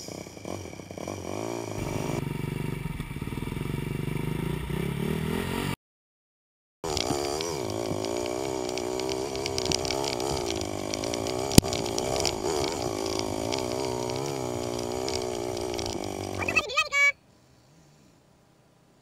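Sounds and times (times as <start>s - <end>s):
dirt bike engine revving: 0.0s - 5.8s, 6.8s - 16.6s.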